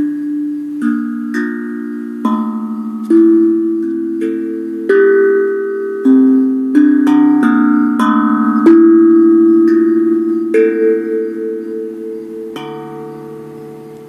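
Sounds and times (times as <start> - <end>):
steel tongue drum notes: 0.0 - 14.0.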